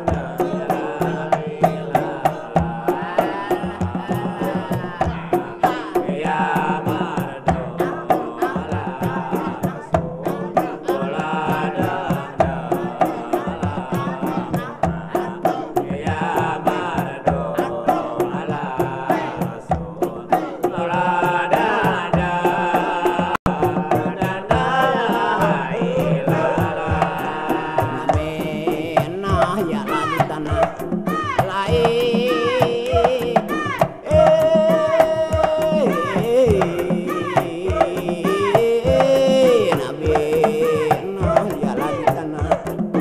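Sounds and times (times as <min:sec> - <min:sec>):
frame drums beating: 0:00.0 - 0:43.0
men singing a chant: 0:00.0 - 0:43.0.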